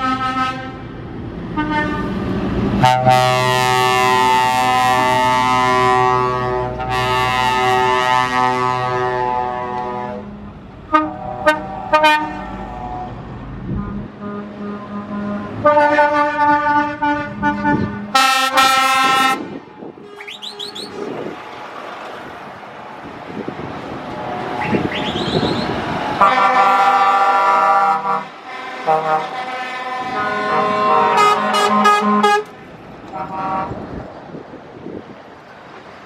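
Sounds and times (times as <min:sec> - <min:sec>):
truck horns blasting: 0:00.0 - 0:21.5, 0:23.8 - 0:35.0
trucks driving past: 0:00.0 - 0:36.0.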